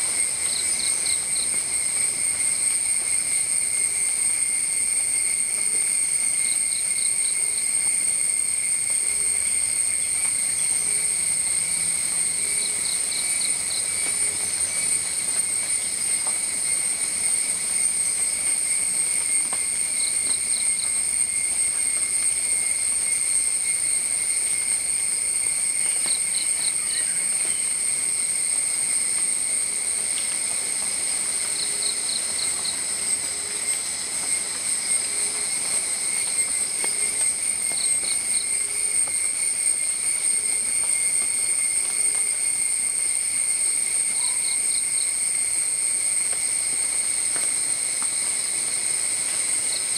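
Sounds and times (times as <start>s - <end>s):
insect chorus: 0.0s - 49.9s
quick cricket chirps: 0.0s - 49.9s.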